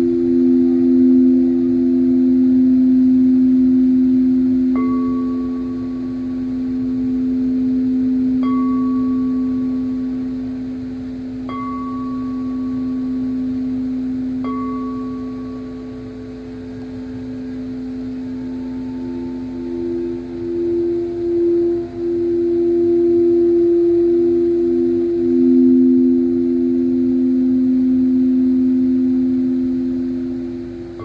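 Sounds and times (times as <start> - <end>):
bell-like tone struck: 0.0 - 31.0
singing bowl low drone: 0.0 - 31.0.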